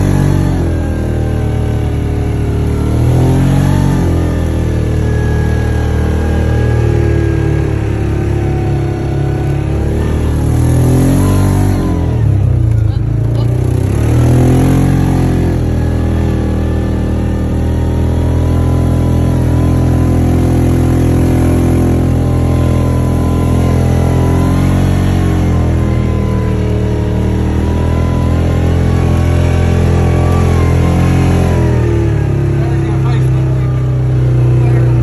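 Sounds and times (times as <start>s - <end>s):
utility vehicle engine running: 0.0s - 35.0s.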